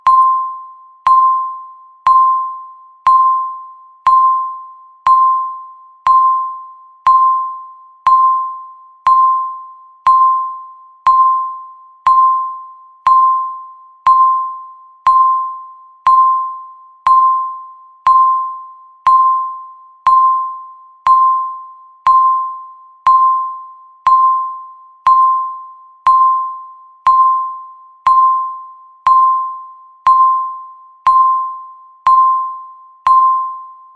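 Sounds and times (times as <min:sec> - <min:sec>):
timer beeping: 0:00.0 - 0:33.9.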